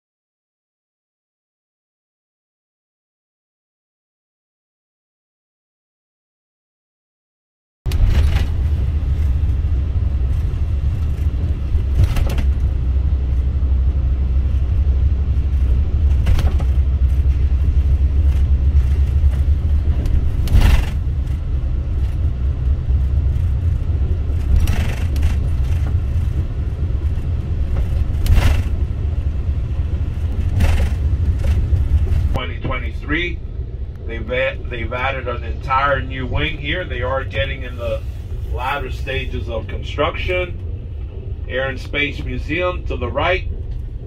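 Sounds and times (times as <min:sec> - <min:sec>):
road and engine rumble: 0:07.9 - 0:44.0.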